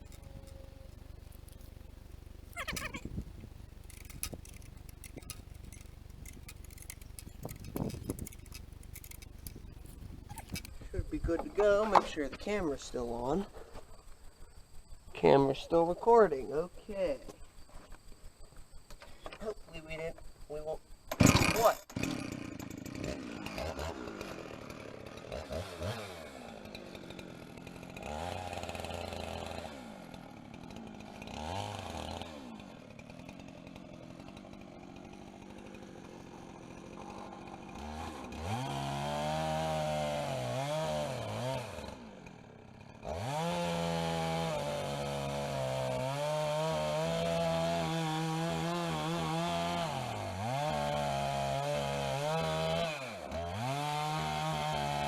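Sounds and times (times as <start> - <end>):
chainsaw cutting through log: 0.0 - 13.3, 21.1 - 55.0
chainsaw idling and revving: 0.0 - 13.4, 21.0 - 55.0.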